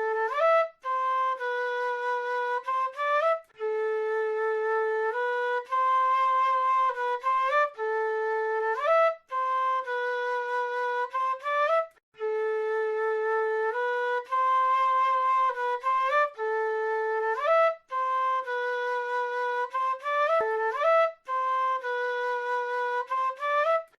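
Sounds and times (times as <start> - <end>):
flute playing slow melody: 0.0 - 24.0.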